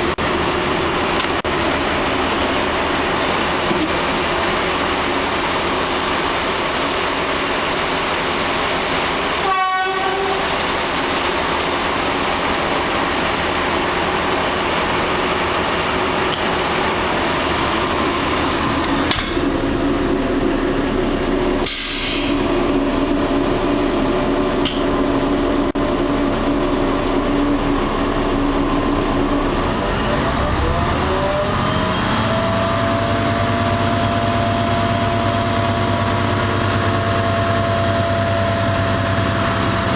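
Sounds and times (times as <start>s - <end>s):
train running rumble: 0.0s - 39.9s
train whine and hum: 0.0s - 39.9s.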